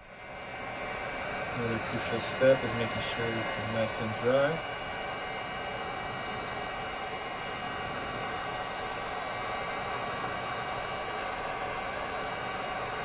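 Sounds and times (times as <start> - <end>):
heat gun blowing air: 0.3 - 11.2.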